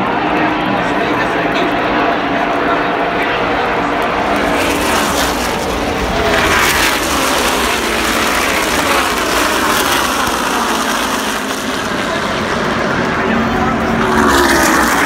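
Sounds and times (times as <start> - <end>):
race car engines racing past: 0.0 - 15.0.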